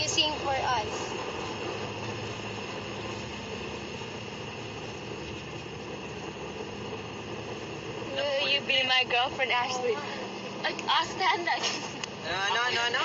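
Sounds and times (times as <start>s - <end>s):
engine and road noise: 0.0s - 13.0s.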